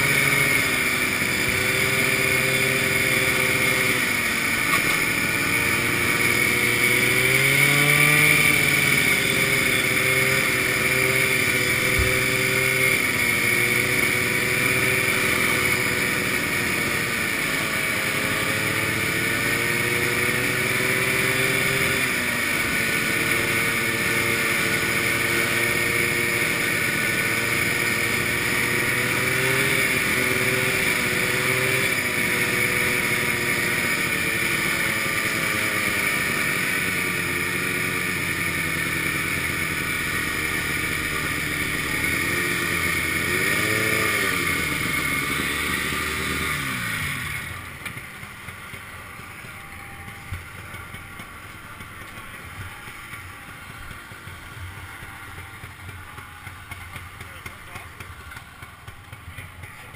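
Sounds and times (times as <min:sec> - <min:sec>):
snowmobile two-stroke engine: 0:00.0 - 0:59.9.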